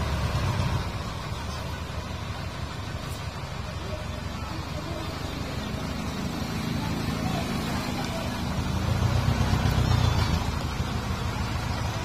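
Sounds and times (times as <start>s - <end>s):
dump truck diesel engine running: 0.0s - 12.0s.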